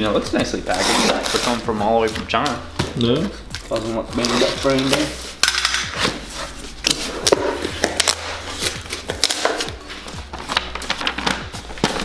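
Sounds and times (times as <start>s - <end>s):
background music: 0.0s - 12.0s
packing tape being cut: 0.6s - 2.2s, 3.6s - 12.0s.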